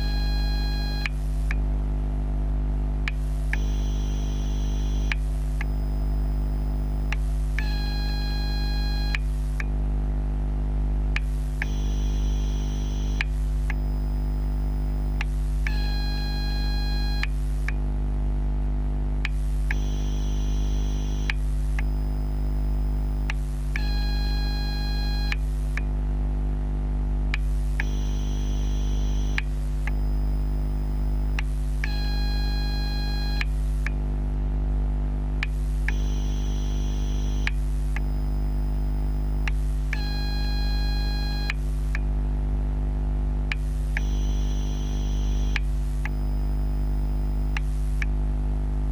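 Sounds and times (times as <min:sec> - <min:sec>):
high-pitched charger whine: 0:00.0 - 0:01.6, 0:03.1 - 0:09.7, 0:11.1 - 0:17.8, 0:19.2 - 0:25.9, 0:27.3 - 0:34.0, 0:35.4 - 0:42.1, 0:43.5 - 0:48.2
low electrical hum: 0:00.0 - 0:48.9.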